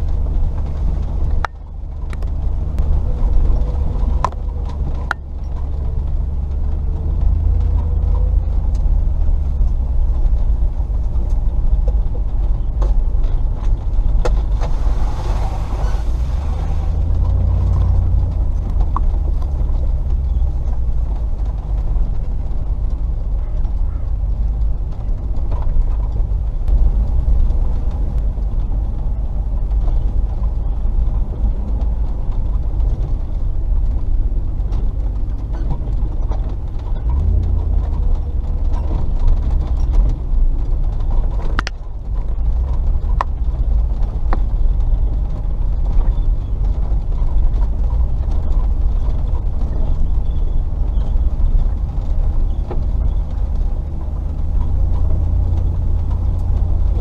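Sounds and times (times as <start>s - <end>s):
engine low rumble: 0.0s - 57.0s
vehicle clicks and creaks: 0.0s - 57.0s.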